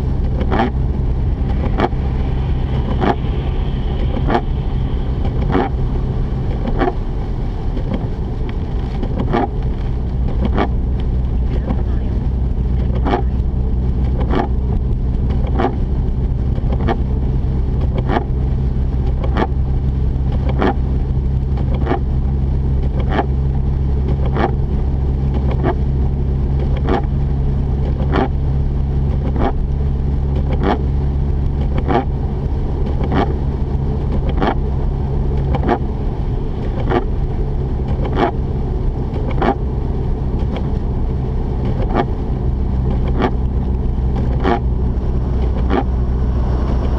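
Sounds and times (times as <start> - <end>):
car engine droning inside cabin: 0.0 - 46.9.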